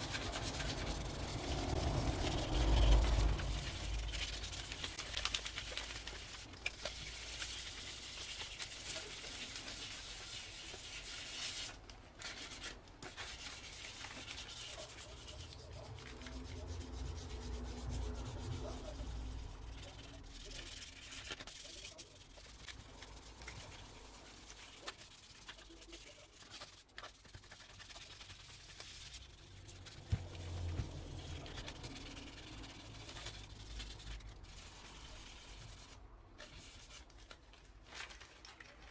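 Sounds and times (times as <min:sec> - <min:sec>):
sanding sponge scratching: 0:00.0 - 0:05.0, 0:06.1 - 0:37.1.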